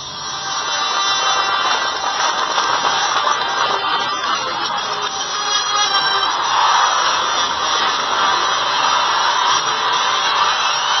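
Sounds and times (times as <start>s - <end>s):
orchestral music: 0.5s - 11.0s.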